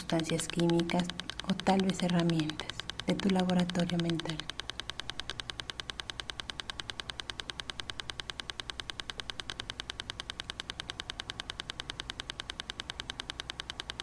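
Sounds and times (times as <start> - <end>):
faint low hum: 0.0 - 14.0
rapid electronic ticking pulse: 0.0 - 14.0.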